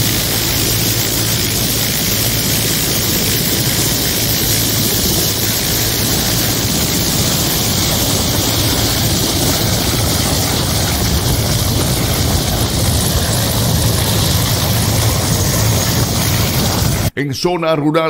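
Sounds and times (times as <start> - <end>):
helicopter turbines and rotor running: 0.0 - 17.1
wind noise on microphone: 0.0 - 17.1.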